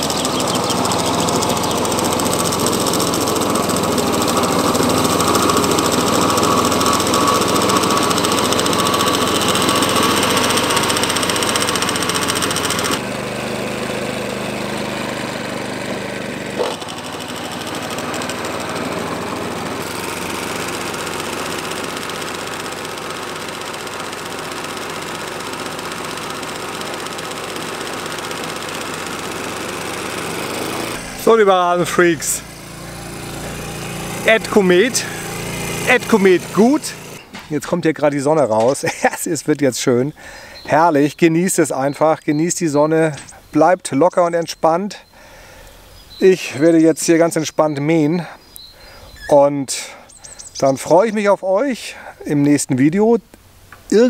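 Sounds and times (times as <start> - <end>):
lawn mower running: 0.0 - 52.6.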